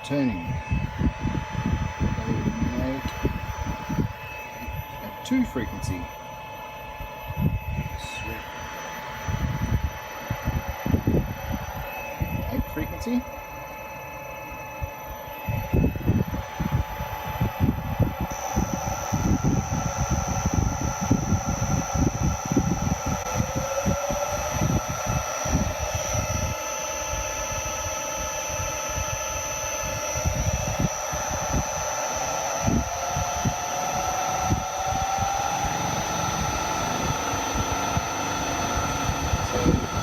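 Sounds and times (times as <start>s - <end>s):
electric motor whining: 0.0s - 40.0s
high-pitched drive whine: 0.0s - 40.0s.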